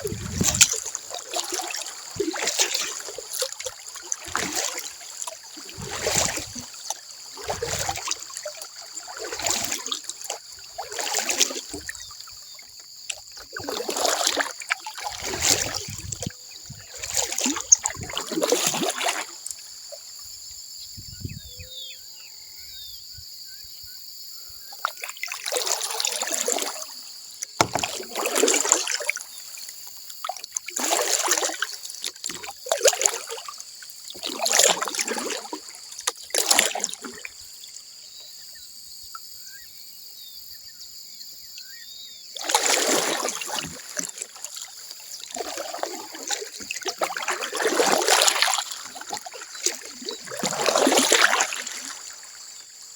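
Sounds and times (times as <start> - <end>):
paddle strokes in water: 0.0 - 20.8, 24.6 - 38.5, 41.6 - 52.9.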